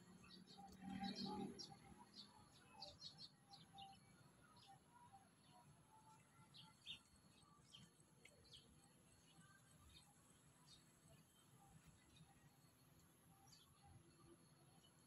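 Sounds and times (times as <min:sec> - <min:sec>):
low background noise: 0:00.0 - 0:15.0
faint bird chirps: 0:00.1 - 0:15.0.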